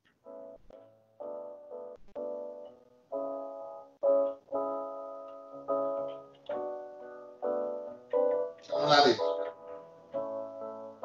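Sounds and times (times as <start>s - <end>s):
electronic keyboard chords: 0.0s - 11.0s.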